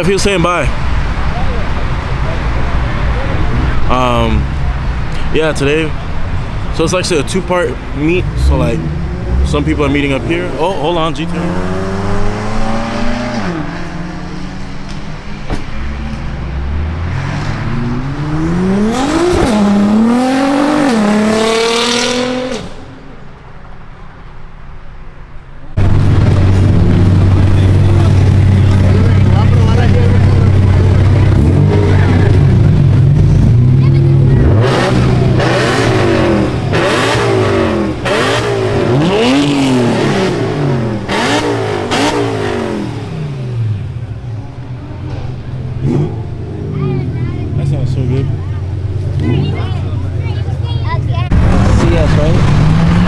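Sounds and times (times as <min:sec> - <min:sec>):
car accelerating hard: 0:06.0 - 0:23.0, 0:25.8 - 0:53.0.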